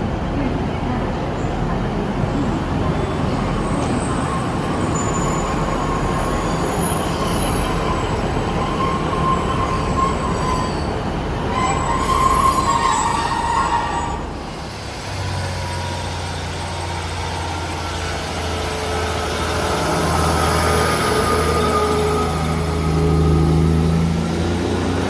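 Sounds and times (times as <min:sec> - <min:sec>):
train running on rails: 0:00.0 - 0:25.0
train wheels squealing: 0:02.4 - 0:24.7.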